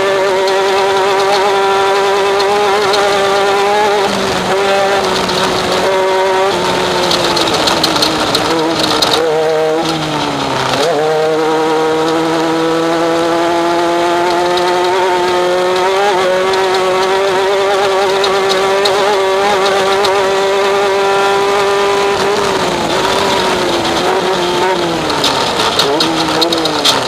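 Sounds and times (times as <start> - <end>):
engine at high revs: 0.0 - 27.0.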